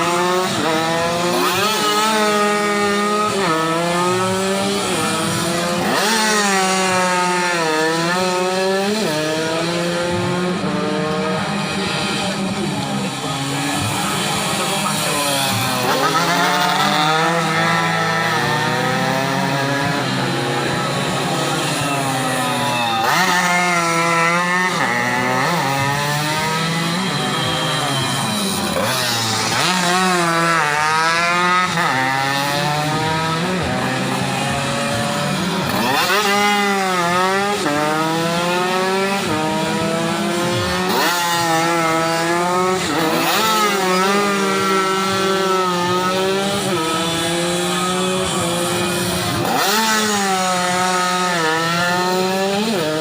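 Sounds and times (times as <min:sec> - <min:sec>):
race motorcycles passing: 0:00.0 - 0:53.0.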